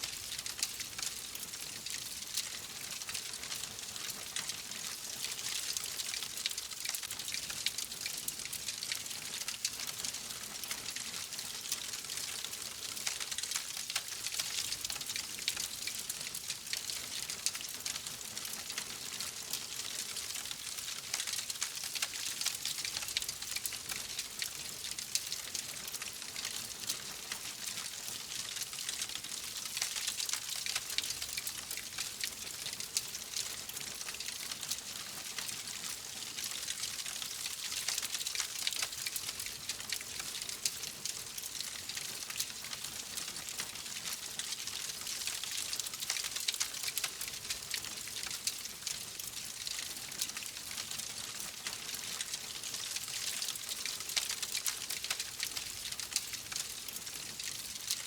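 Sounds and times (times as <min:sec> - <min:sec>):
fireplace fire crackling: 0:00.1 - 0:50.6, 0:51.6 - 0:58.0.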